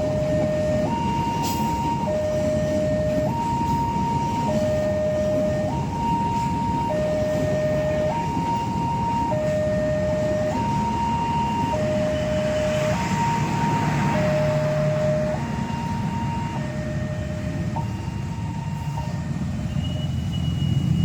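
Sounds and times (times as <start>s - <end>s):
two-tone electronic warning alarm: 0.0s - 21.0s.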